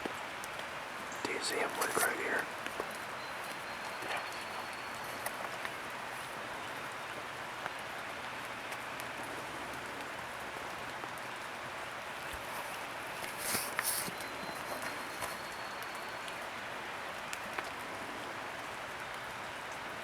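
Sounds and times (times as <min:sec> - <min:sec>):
rain patter in woodland: 0:00.0 - 0:20.0.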